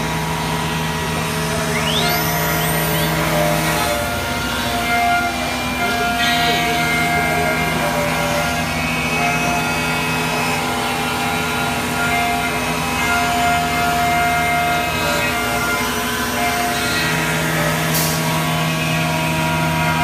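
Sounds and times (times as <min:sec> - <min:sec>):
machine whining tones: 0:00.0 - 0:20.0
milling machine humming: 0:00.0 - 0:20.0.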